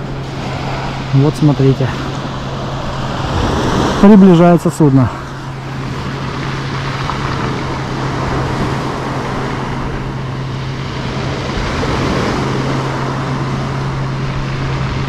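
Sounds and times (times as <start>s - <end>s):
boat motor running: 0.0s - 15.0s
broad wash of noise: 0.0s - 15.0s.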